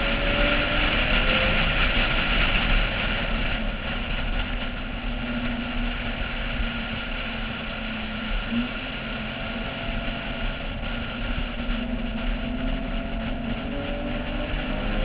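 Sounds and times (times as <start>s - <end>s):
faint car engine drone: 0.0s - 15.0s
wind rush: 0.0s - 15.0s.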